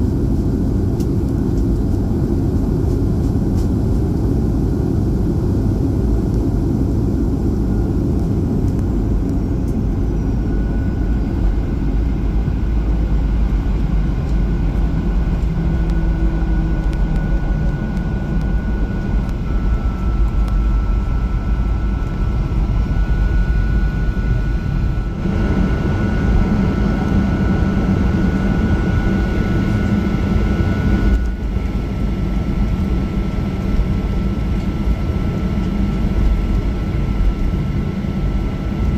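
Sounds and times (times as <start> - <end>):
faint high engine whine: 0.0 - 38.9
jet airliner engines rumbling: 0.0 - 38.9.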